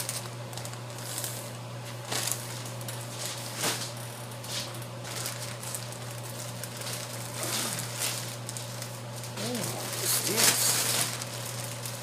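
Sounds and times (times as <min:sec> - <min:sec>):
plastic packaging crinkling: 0:00.0 - 0:12.0
steady low hum: 0:00.0 - 0:12.0.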